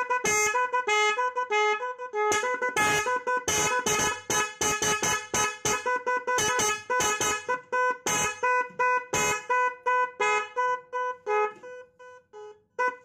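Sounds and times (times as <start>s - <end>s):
electronic musical car horn tune: 0.0s - 13.0s.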